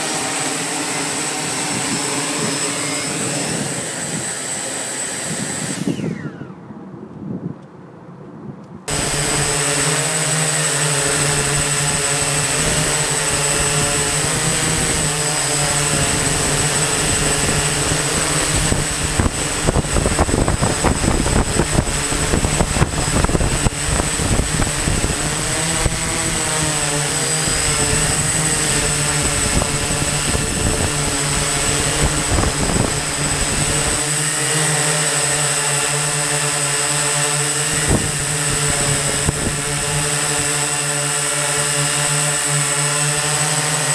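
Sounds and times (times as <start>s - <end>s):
drone motors whining: 0.0s - 6.9s, 8.9s - 43.9s.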